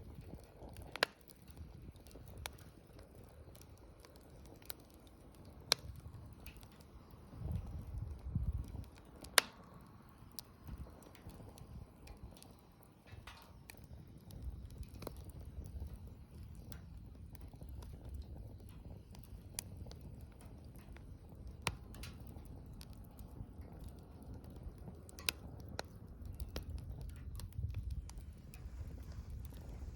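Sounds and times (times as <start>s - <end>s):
bonfire crackling and popping: 0.0s - 29.9s
low rumble of burning: 0.0s - 29.9s.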